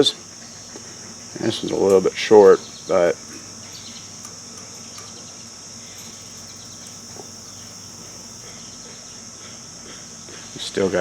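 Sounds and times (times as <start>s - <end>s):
faint low hum: 0.0s - 9.2s
high-pitched insect drone: 0.0s - 9.2s.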